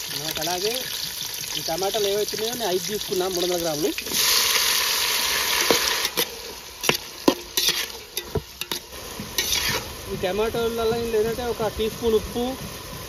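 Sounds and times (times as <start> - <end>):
loud sizzle of tomatoes in oil: 0.0 - 13.0.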